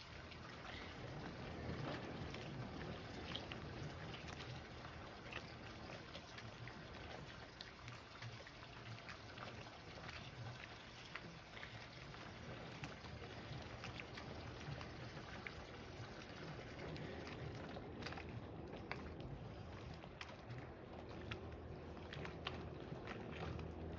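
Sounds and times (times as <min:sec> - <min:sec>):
small ticks and splashes: 0:00.0 - 0:23.9
water lapping against dock: 0:00.0 - 0:23.9.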